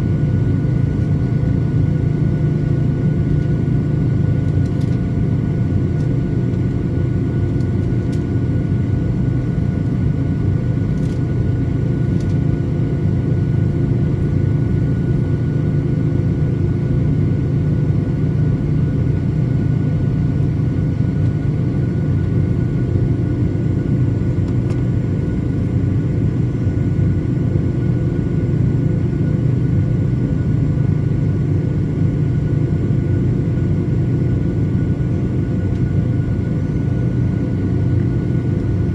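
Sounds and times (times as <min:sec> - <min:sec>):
faint turbine whine: 0:00.0 - 0:38.9
jet engines low rumble: 0:00.0 - 0:38.9.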